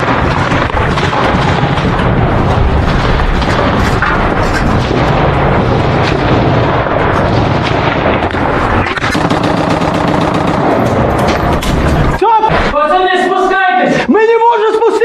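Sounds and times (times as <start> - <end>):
machine gun firing: 0.0 - 12.7.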